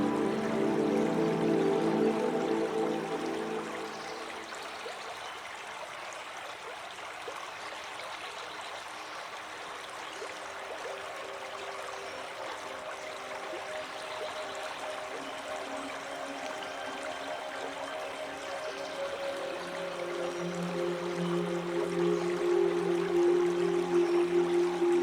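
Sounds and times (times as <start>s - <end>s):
water rippling and trickling: 0.0s - 25.0s.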